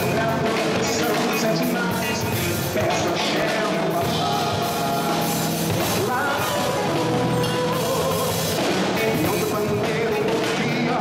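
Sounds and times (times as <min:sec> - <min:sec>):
live band playing samba-funk: 0:00.0 - 0:11.0
man singing into a microphone: 0:00.0 - 0:11.0.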